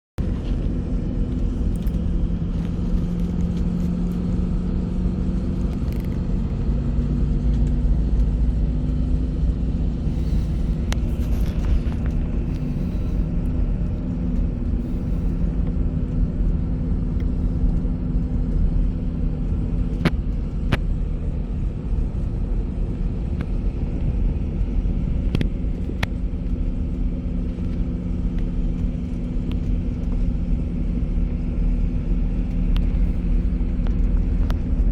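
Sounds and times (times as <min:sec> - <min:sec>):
bus engine and road rumble: 0:00.0 - 0:34.9.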